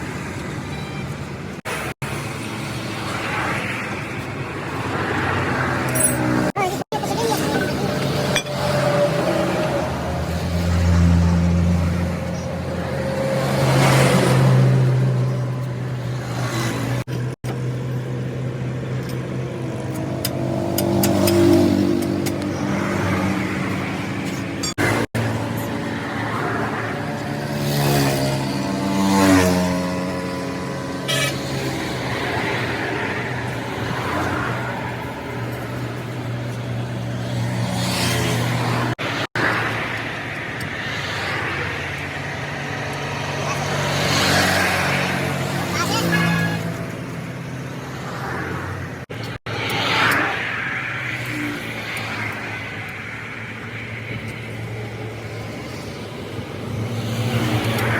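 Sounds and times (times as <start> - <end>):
passing traffic: 0.0 - 57.9
vehicle engine humming: 0.0 - 57.9.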